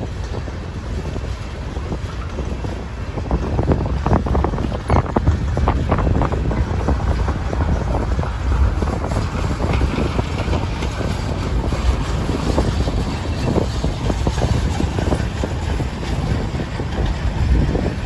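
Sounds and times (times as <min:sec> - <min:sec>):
freight train rumbling past: 0:00.0 - 0:18.0
train clattering: 0:00.0 - 0:18.0
wind buffeting microphone: 0:00.0 - 0:18.0.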